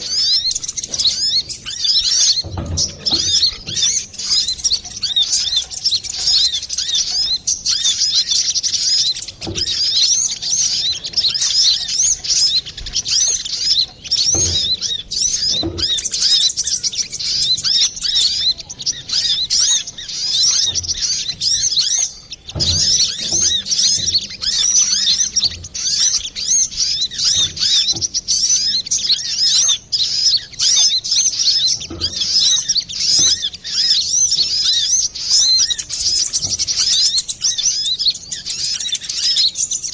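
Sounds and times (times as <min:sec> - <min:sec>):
faint low knocks: 0:00.0 - 0:37.2
sunbird chirping and trilling: 0:00.0 - 0:39.9.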